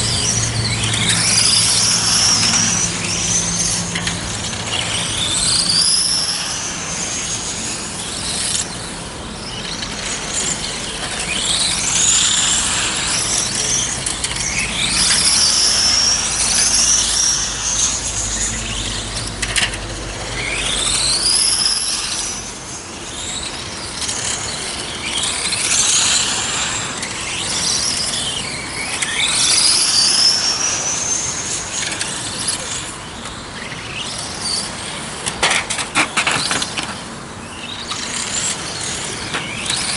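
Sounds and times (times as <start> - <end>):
rc car motors whining: 0.0 - 39.9.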